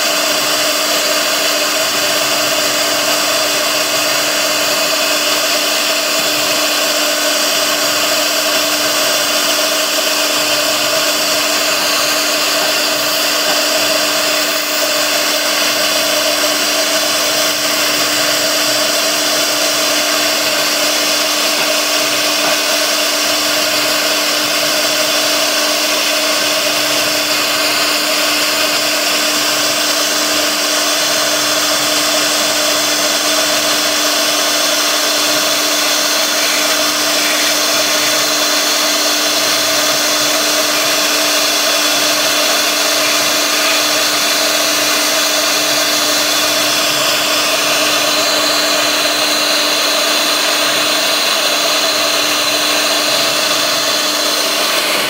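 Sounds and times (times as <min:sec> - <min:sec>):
bit cutting into wood: 0:00.0 - 0:55.0
router spindle motor whine: 0:00.0 - 0:55.0.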